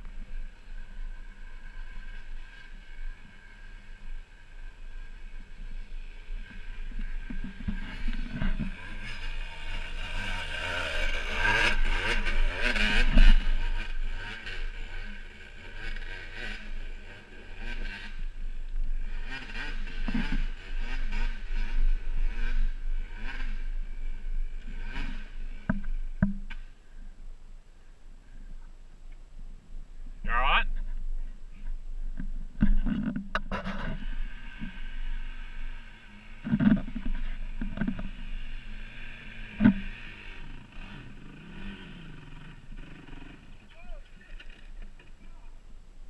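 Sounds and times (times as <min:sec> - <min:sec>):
dirt bike engine revving: 0:00.1 - 0:26.7, 0:32.6 - 0:45.2.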